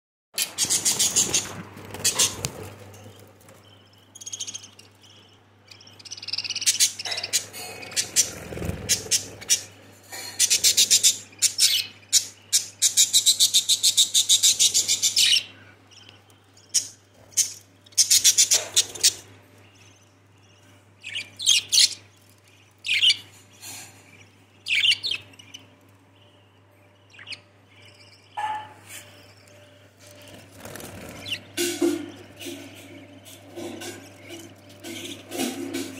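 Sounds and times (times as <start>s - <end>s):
budgerigars chirping: 0.4s - 35.9s.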